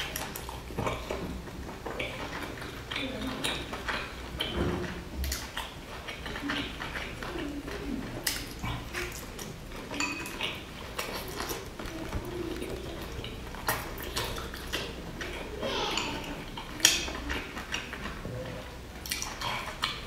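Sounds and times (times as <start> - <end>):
chewing soft food: 0.0 - 20.0.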